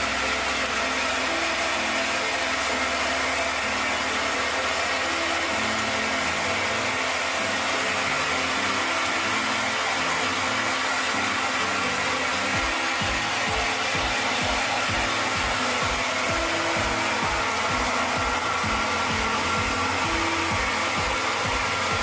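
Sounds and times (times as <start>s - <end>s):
background music with beat: 0.0s - 22.0s
hair dryer blowing: 0.0s - 22.0s.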